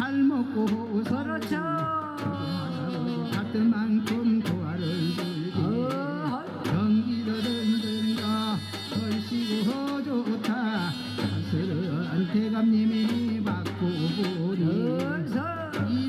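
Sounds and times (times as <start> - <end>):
percussion strikes: 0.0 - 16.0.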